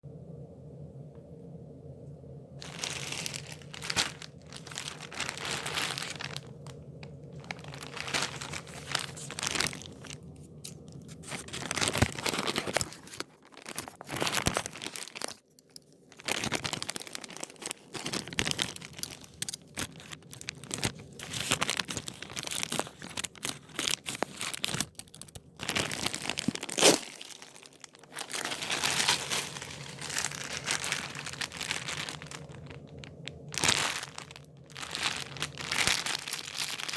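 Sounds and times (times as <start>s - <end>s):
packaging crinkling and tearing: 2.6s - 36.9s.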